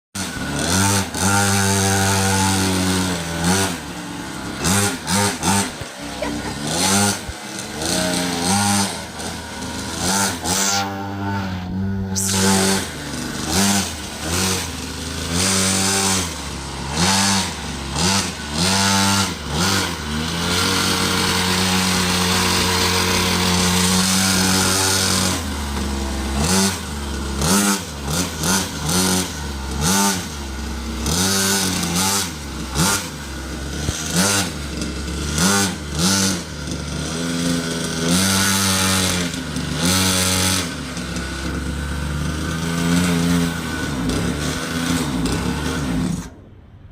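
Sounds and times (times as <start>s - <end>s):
dirt bike engine revving: 0.2s - 46.8s.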